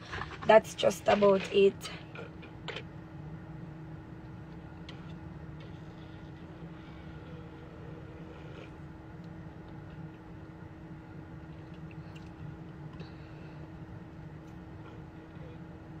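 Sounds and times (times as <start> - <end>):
constant tone: 0.0 - 16.0
low hum inside car: 0.0 - 16.0.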